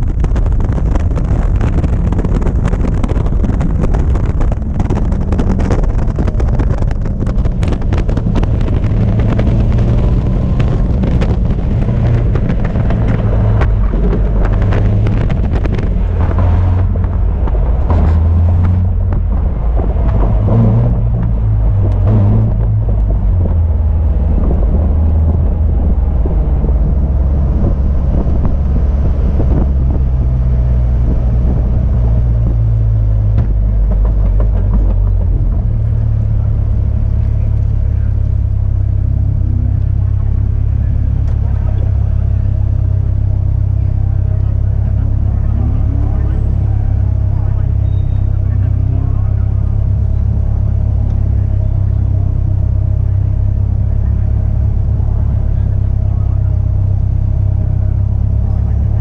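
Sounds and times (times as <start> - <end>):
race car engine running hard: 0.0 - 59.0
wind buffeting microphone: 0.0 - 59.0.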